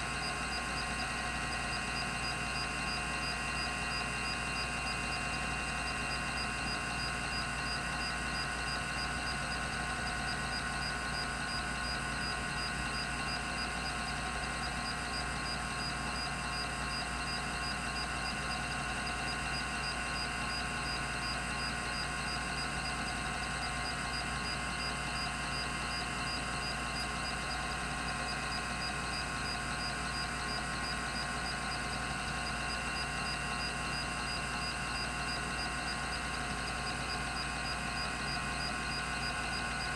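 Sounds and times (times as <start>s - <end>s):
hard drive whine: 0.0s - 39.9s.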